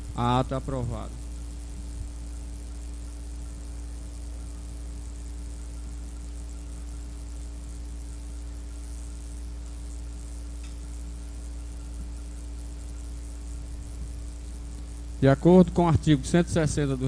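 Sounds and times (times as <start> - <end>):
deep mains hum: 0.0 - 17.0
tape hiss: 0.0 - 17.0.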